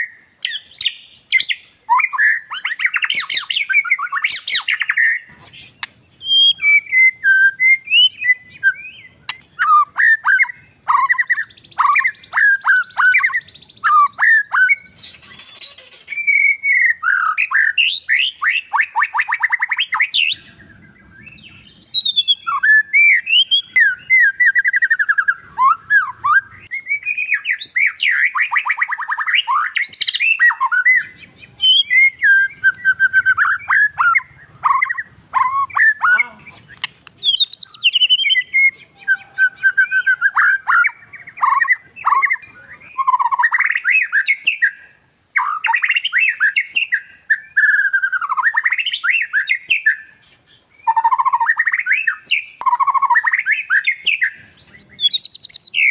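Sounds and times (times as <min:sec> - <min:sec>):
songbird whistling and trilling: 0:00.0 - 0:55.9.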